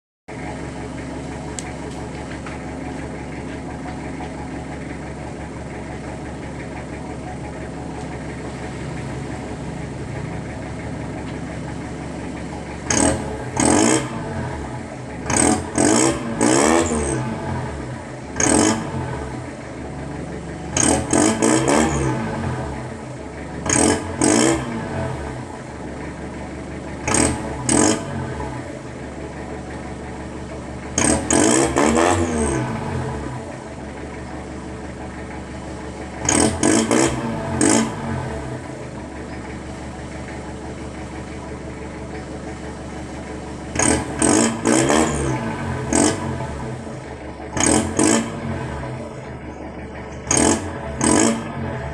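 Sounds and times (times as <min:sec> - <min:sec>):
pickup exhaust idling and revving: 0:00.3 - 0:51.9.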